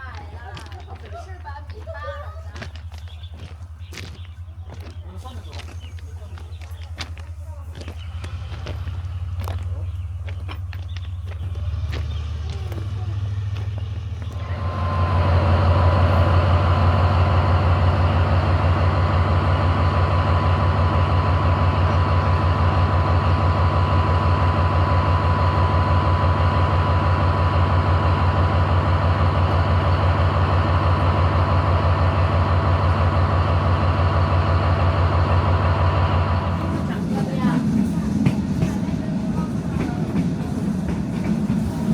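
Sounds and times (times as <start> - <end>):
train engine humming: 0.0 - 41.9.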